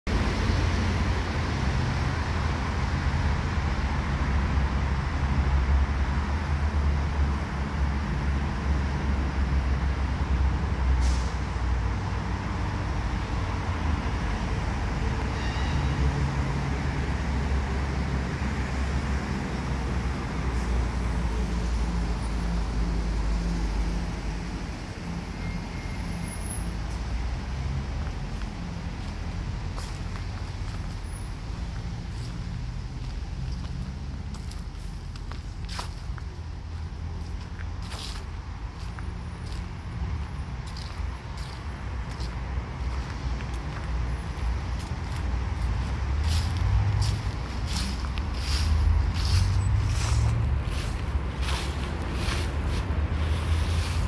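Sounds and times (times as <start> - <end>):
road traffic rumble: 0.0 - 54.0
engine hum: 0.1 - 54.0.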